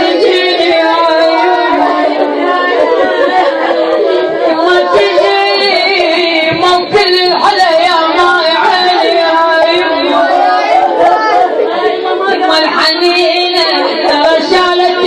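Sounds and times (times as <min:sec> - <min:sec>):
woman chanting a lament: 0:00.0 - 0:15.0.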